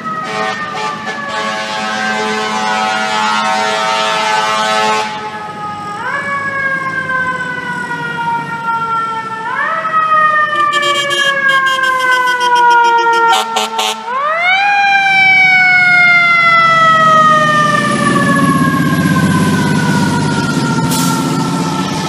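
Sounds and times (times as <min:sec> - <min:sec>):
diesel engine rumbling: 0:02.6 - 0:14.4, 0:15.0 - 0:22.0.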